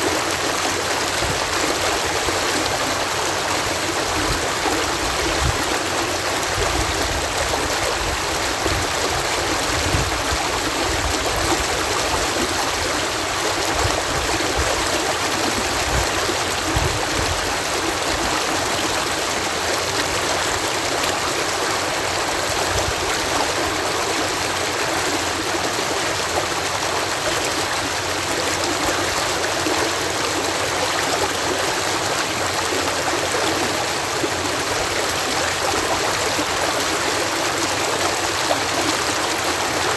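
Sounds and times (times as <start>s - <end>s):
water cascading over lock gate: 0.0s - 39.9s.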